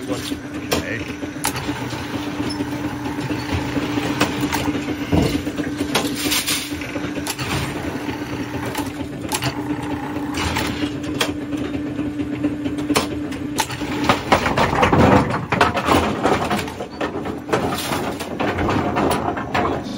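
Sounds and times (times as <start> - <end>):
loud mechanical clatter: 0.0 - 19.9
machine hum: 0.0 - 19.9
mechanism clicks and clunks: 0.0 - 19.9.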